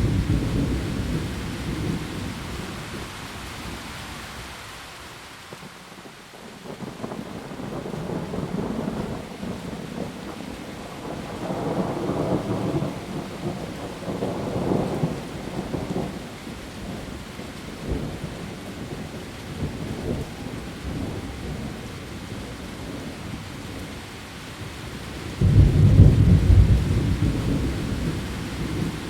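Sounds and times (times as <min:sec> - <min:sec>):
heavy rain on leaves: 0:00.0 - 0:29.0.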